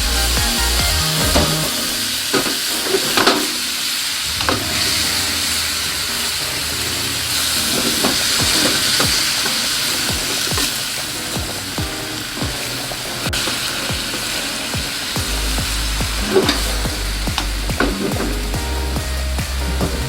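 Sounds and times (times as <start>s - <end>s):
food sizzling in a frying pan: 0.1s - 20.0s.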